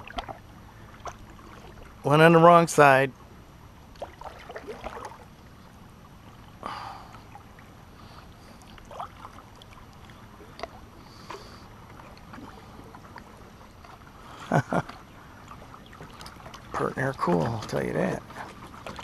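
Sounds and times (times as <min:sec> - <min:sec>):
paddle splash: 0:00.0 - 0:03.0, 0:03.9 - 0:19.0
rush of water and wind: 0:00.0 - 0:19.0.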